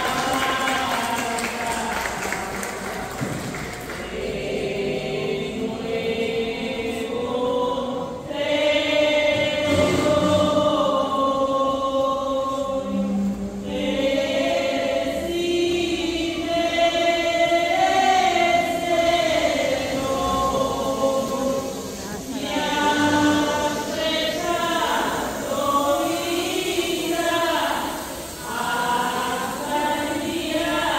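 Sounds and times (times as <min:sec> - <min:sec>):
choir singing a hymn: 0:00.0 - 0:30.9.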